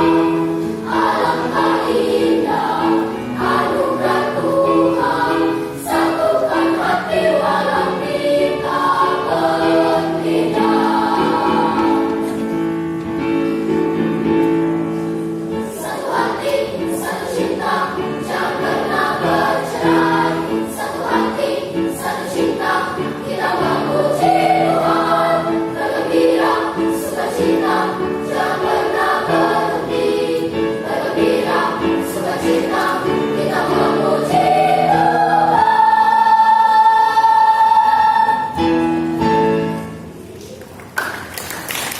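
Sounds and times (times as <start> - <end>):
children's choir singing: 0.0 - 40.2.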